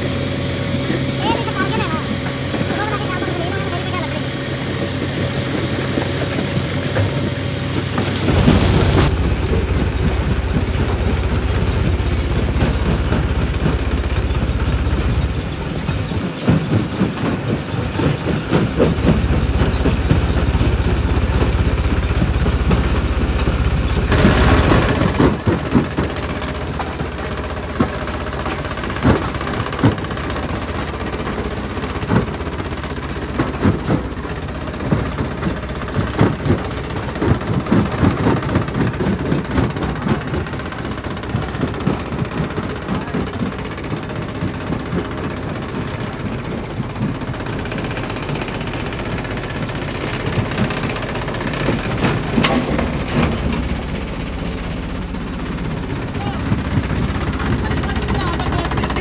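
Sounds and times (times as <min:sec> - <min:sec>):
jaw crusher droning: 0:00.0 - 0:59.0.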